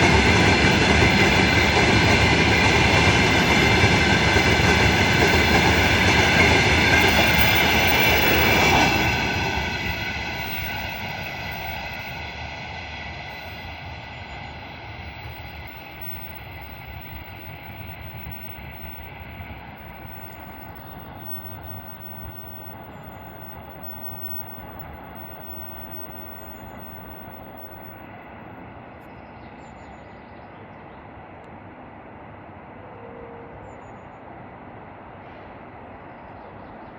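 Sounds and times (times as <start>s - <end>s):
freight train rumbling on rails: 0.0s - 36.9s.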